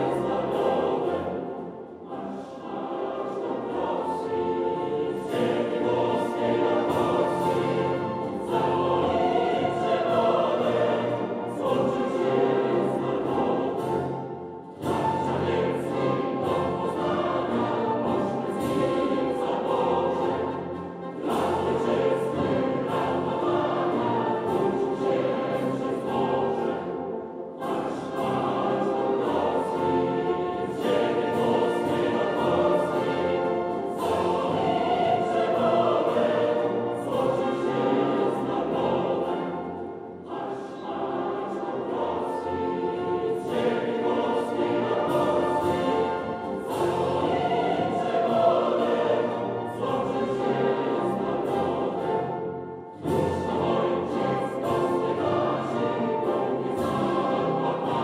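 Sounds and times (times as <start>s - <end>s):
choir singing an anthem: 0.0s - 58.0s
orchestra playing: 0.0s - 58.0s.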